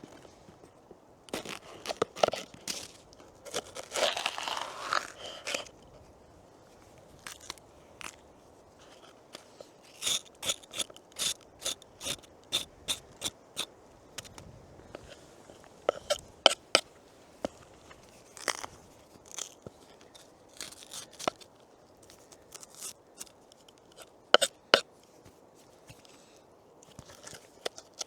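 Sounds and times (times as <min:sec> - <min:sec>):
crunching and scraping: 0:00.0 - 0:28.0.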